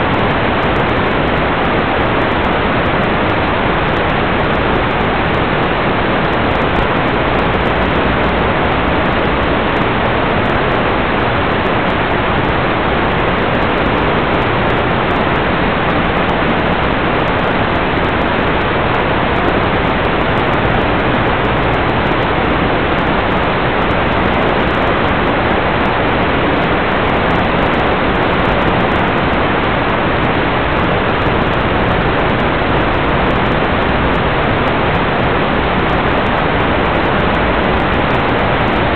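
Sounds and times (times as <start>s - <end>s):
loud static hiss: 0.0s - 38.9s.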